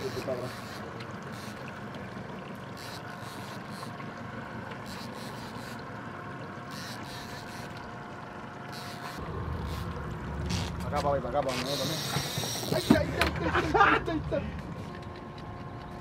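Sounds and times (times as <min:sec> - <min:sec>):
boat motor hum: 0:00.0 - 0:16.0
water rushing along hull: 0:00.0 - 0:16.0
wind: 0:00.0 - 0:16.0.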